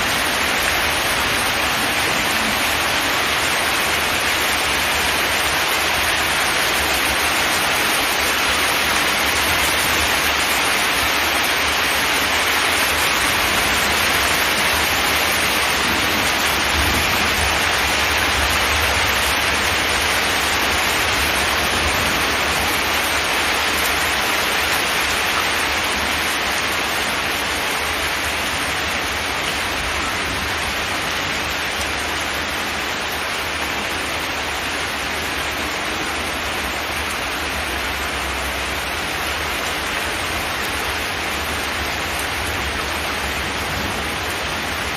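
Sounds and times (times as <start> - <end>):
rain on a metal roof: 0.0 - 44.9.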